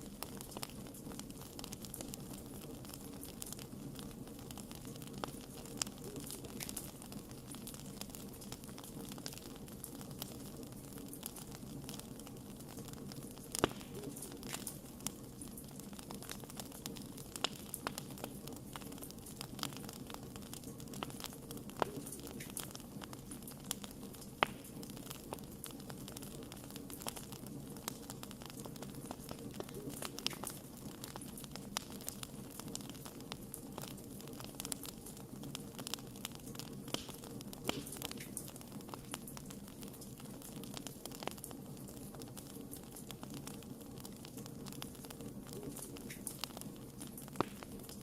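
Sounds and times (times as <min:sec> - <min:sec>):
sharp fire pops: 0:00.0 - 0:48.0
wood fire crackling: 0:00.0 - 0:48.0.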